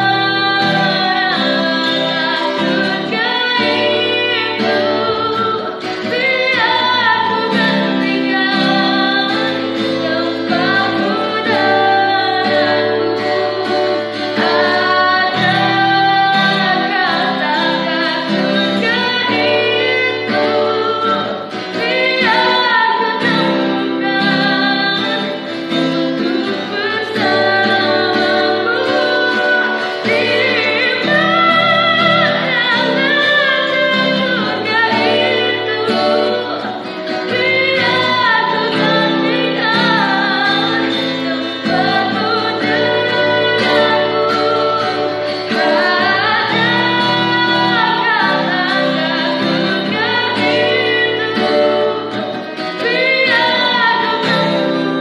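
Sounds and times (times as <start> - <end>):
guitar accompaniment: 0.0 - 55.0
woman singing: 0.0 - 55.0.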